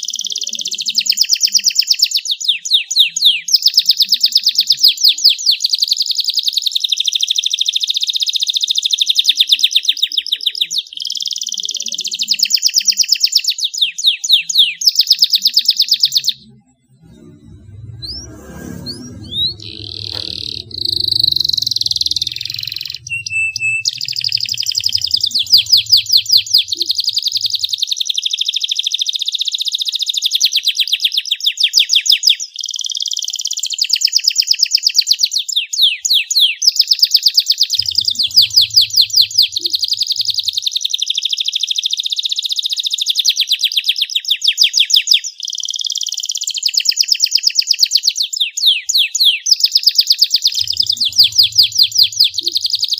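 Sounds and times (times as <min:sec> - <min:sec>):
canary singing: 0:00.0 - 0:34.1, 0:35.5 - 0:47.2, 0:47.8 - 0:52.9.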